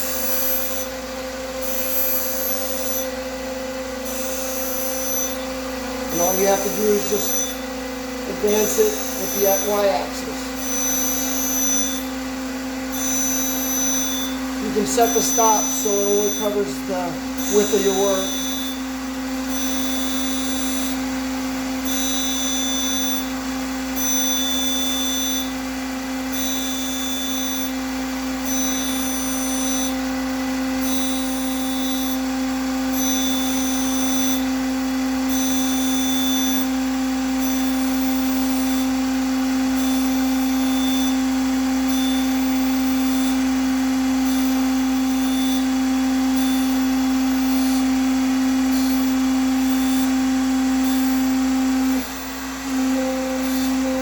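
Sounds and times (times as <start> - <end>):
grinder wheel whine: 0.0 - 54.0
motor and pump hum: 0.0 - 54.0.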